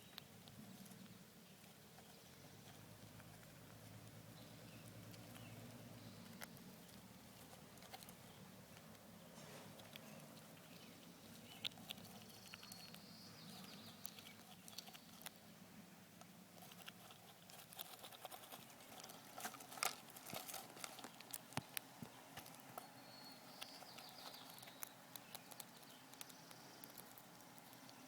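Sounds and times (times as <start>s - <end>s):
squirrel crunching seeds: 0.0s - 28.0s.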